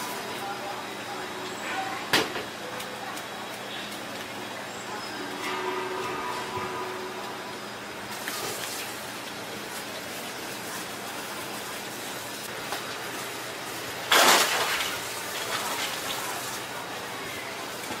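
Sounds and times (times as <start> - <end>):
kitchen background hiss: 0.0 - 18.0.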